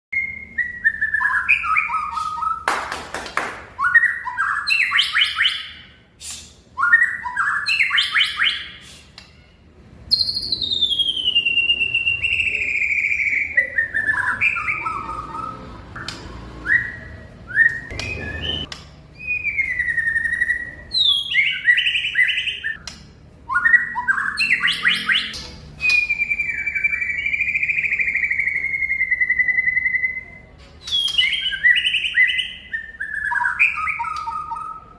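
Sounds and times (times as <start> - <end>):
songbird singing whistles: 0.1 - 2.7, 3.7 - 34.9.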